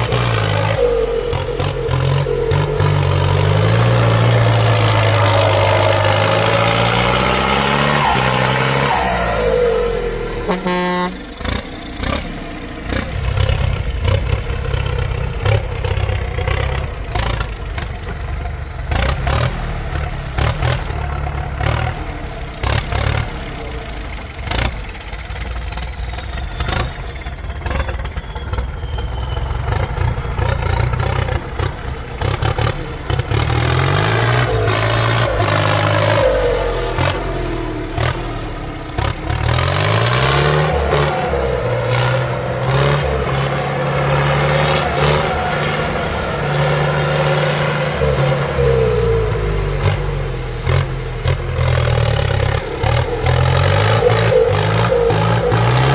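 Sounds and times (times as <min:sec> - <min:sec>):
heavy diesel engines under load: 0:00.0 - 0:55.9.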